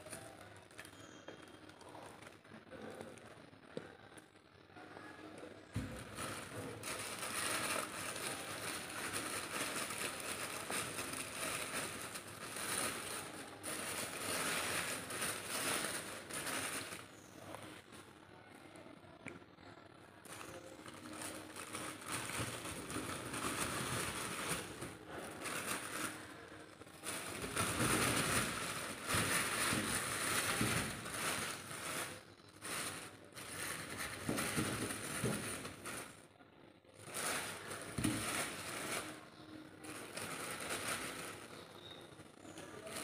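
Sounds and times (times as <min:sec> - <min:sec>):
plastic bag crinkling: 0:00.0 - 0:03.2, 0:05.6 - 0:18.0, 0:20.2 - 0:36.3, 0:37.0 - 0:43.0.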